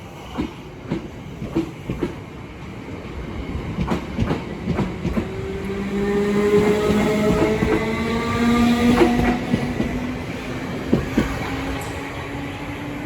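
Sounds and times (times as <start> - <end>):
train wheels clicking over rail joints: 0.2 - 2.3, 3.5 - 12.0.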